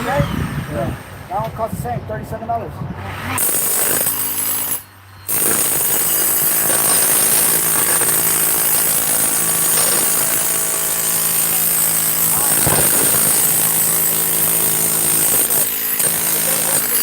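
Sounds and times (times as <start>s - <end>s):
power tool running harshly: 3.4s - 17.0s.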